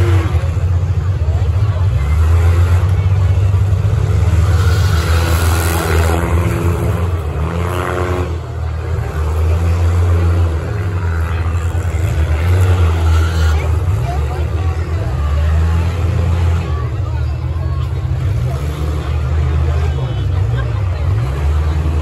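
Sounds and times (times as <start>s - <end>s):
car engines running rough: 0.0s - 22.0s
engine revving: 0.0s - 22.0s.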